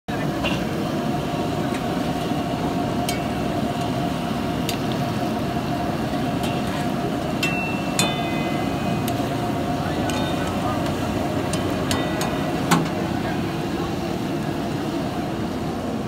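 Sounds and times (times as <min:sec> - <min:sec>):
gas burners roaring: 0:00.1 - 0:16.0.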